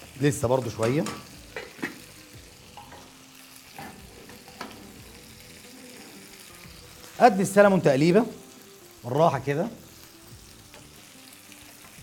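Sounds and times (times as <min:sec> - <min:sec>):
fish sizzling in grill pan: 0:00.0 - 0:12.0.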